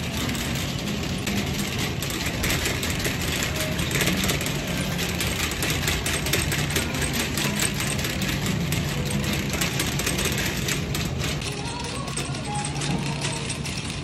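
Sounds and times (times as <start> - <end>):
shopping cart rattling: 0.0 - 14.0.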